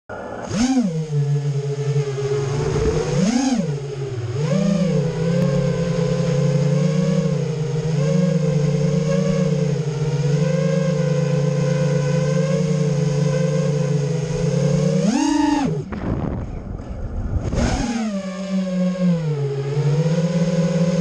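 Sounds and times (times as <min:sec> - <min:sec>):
drone motor whine: 0:00.1 - 0:21.0.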